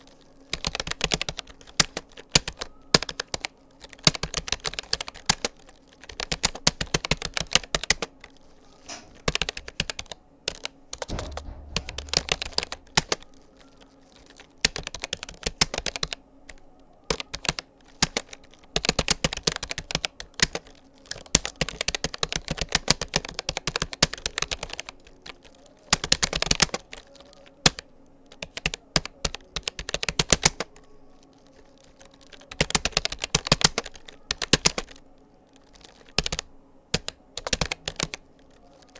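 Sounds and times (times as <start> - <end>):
typing on computer keyboard: 0.1 - 38.9.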